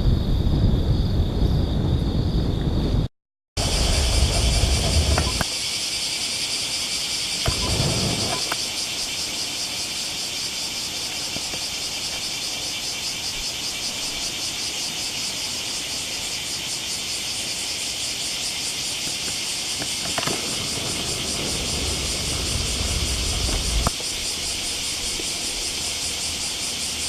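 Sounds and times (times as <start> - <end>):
cicadas buzzing: 3.6 - 27.0.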